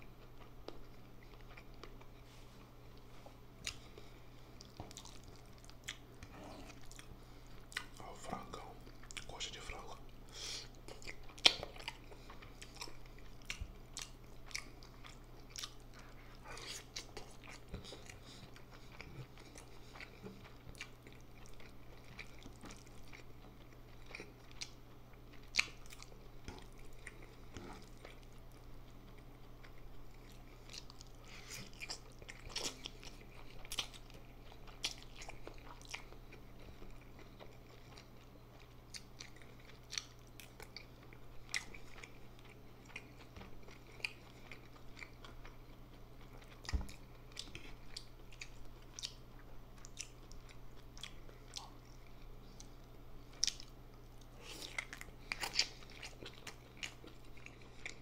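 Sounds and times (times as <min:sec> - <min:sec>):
faint steady low hum: 0:00.0 - 0:58.0
wet chewing and biting: 0:03.6 - 0:09.9, 0:10.6 - 0:58.0.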